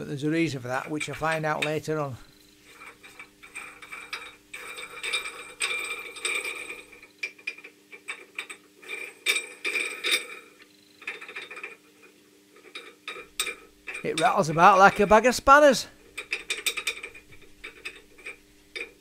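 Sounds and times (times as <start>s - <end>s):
nut rattling on threaded screw: 2.7s - 15.2s, 16.0s - 19.0s.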